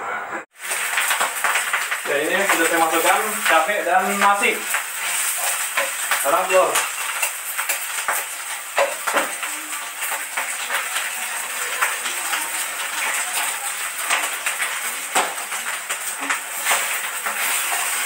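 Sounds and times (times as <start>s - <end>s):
rice sizzling in frying pan: 0.5s - 18.0s
spatula scraping pan: 0.6s - 18.0s.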